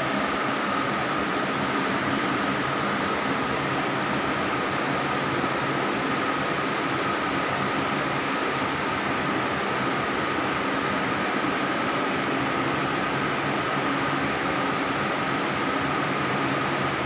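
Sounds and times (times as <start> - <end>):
electric fans whirring: 0.0 - 17.0
faint high fan whine: 0.0 - 17.0.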